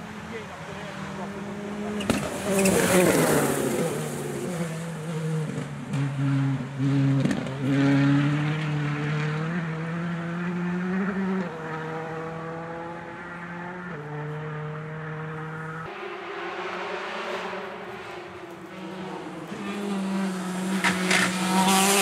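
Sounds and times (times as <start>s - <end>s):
rally car engine revving: 0.8s - 22.0s.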